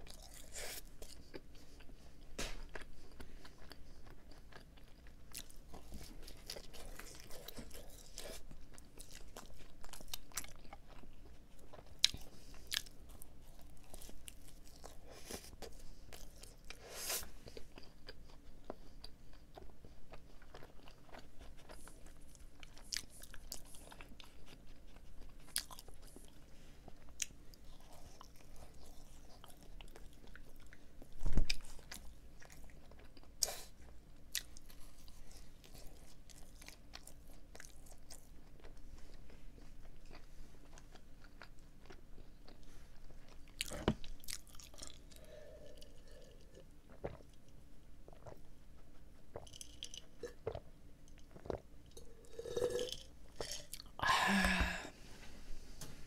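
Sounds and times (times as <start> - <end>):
person chewing a doughnut: 0.0 - 54.7.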